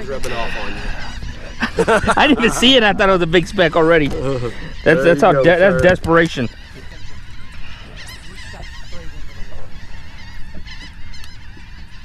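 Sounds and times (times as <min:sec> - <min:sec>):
birds chattering calls: 0:00.0 - 0:12.0.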